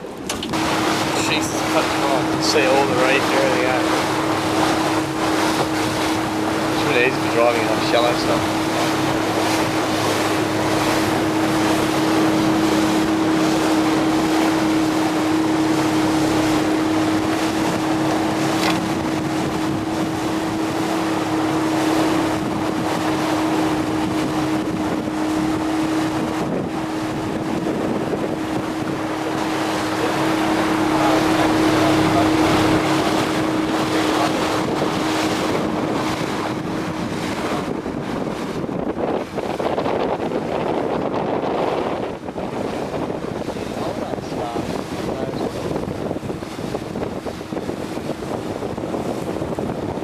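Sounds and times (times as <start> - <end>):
boat motor droning: 0.0 - 50.0
rushing water: 0.0 - 50.0
wind buffeting microphone: 0.0 - 50.0.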